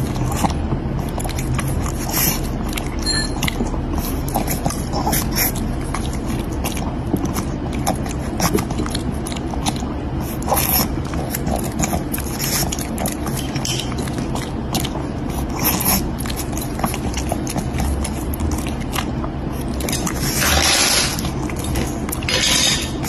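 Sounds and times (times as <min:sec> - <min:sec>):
dog chewing and crunching food: 0:00.0 - 0:23.0
steady low hum: 0:00.0 - 0:23.0.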